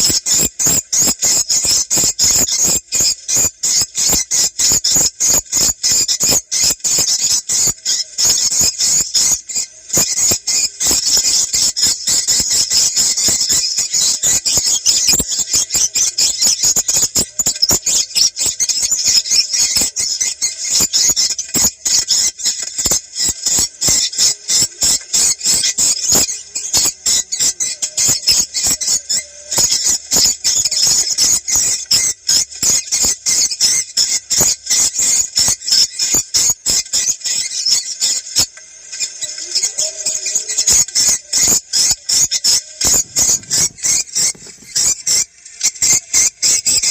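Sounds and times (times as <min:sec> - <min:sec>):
high sharp bird chirps: 0:00.0 - 0:46.9
swiftlets twittering: 0:00.0 - 0:46.9.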